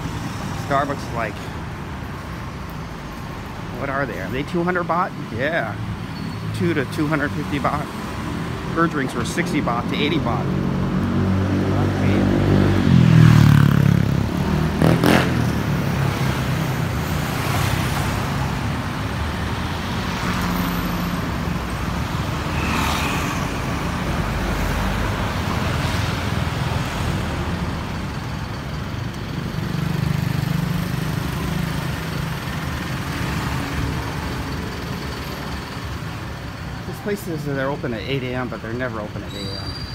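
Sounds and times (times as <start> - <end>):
vehicles driving past: 0.0 - 39.9.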